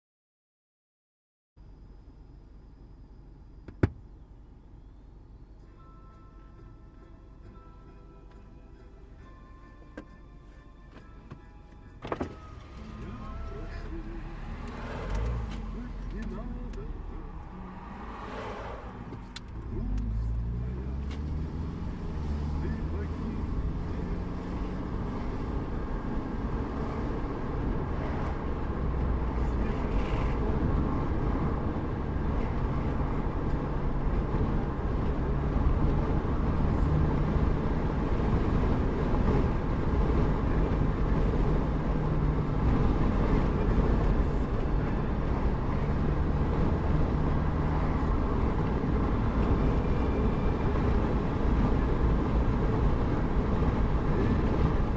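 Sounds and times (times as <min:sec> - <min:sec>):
faint engine hum: 0:01.6 - 0:54.9
road vehicle rumble: 0:01.6 - 0:54.9.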